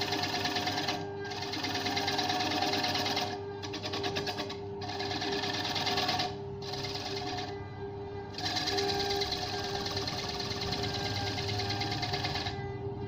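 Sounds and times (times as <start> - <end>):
steady lathe hum: 0.0 - 12.6.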